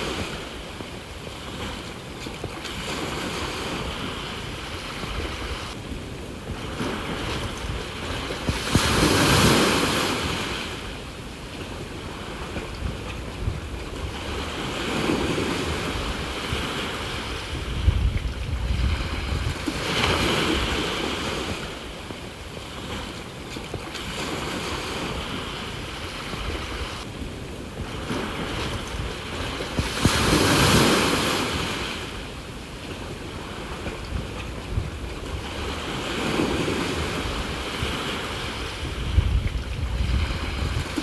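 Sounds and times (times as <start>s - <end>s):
sea waves washing ashore: 0.0s - 41.0s
wind buffeting microphone: 0.0s - 41.0s.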